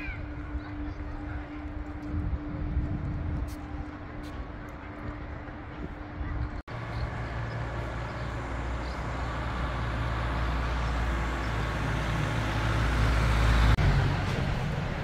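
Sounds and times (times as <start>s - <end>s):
vehicle engine humming: 0.2s - 15.0s.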